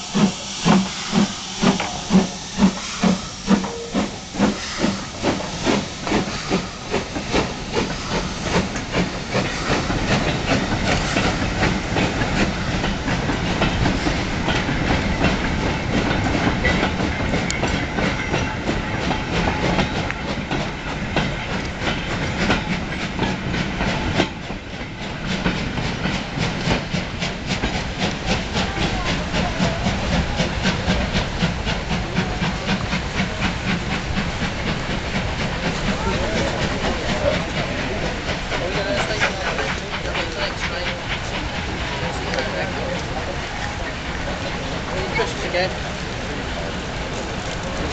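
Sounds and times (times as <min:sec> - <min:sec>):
steam hissing from locomotive: 0:00.0 - 0:47.9.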